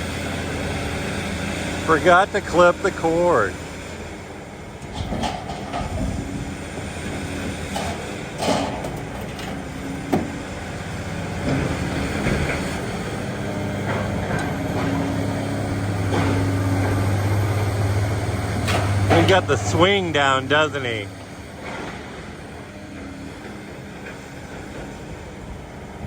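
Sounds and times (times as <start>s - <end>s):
crane engine running: 0.0s - 26.0s.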